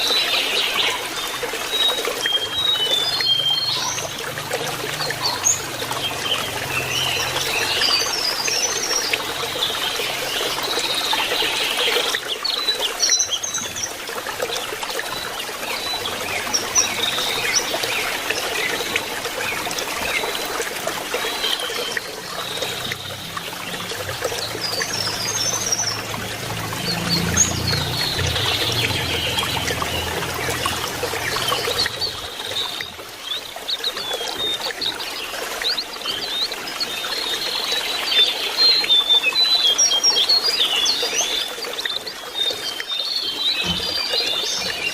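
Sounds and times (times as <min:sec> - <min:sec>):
high twittering birdsong: 0:00.0 - 0:44.9
water trickling: 0:00.0 - 0:44.9.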